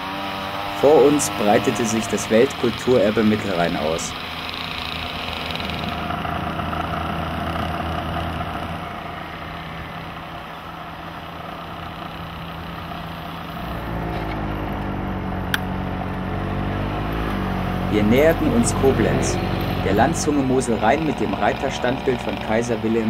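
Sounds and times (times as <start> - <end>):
moped engines running: 0.0 - 23.0
low engine rumble: 0.8 - 23.0.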